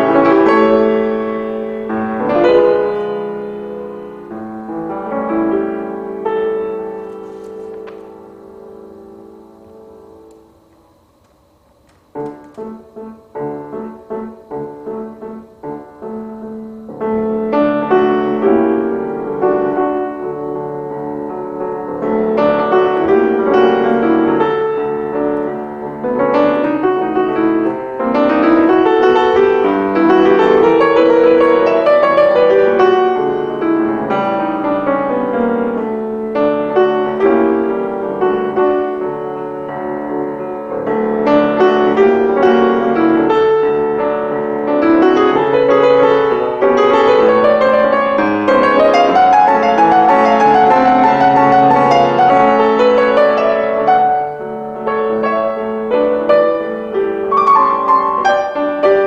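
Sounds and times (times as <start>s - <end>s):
piano playing: 0.0s - 59.0s.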